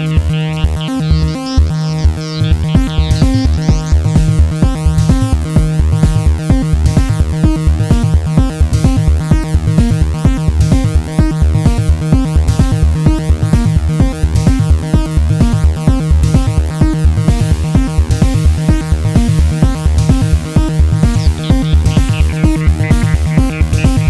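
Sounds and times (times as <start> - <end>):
synthesizer bass and lead lines: 0.0 - 24.0
drum machine beat: 2.4 - 24.0.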